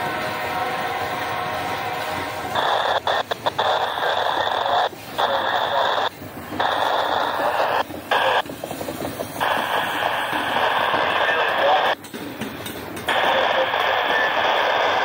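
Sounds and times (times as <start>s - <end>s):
crackly radio transmission: 1.8s - 12.0s, 13.1s - 15.0s.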